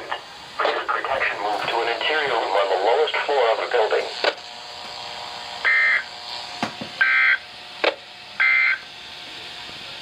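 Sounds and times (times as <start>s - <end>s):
harsh electronic data buzzes: 0.0s - 9.2s.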